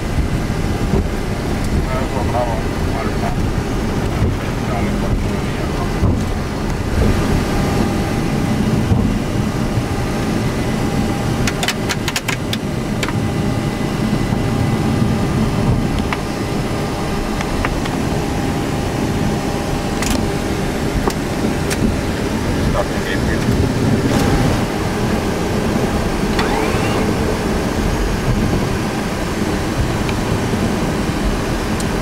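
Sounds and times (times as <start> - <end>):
aircraft engine and airflow rumble: 0.0 - 32.0.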